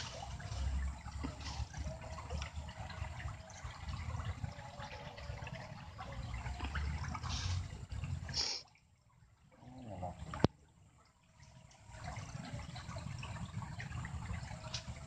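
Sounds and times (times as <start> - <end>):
water trickling and gurgling: 0.0 - 15.0.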